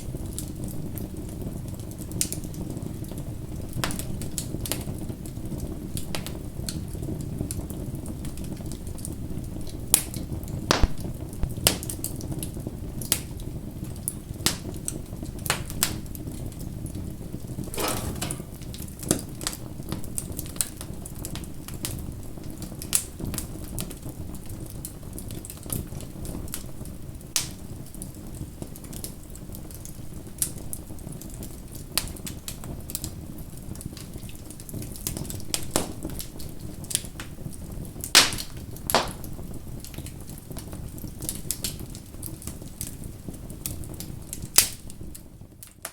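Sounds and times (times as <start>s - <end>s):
bonfire crackling and popping: 0.0s - 17.0s, 17.7s - 45.9s.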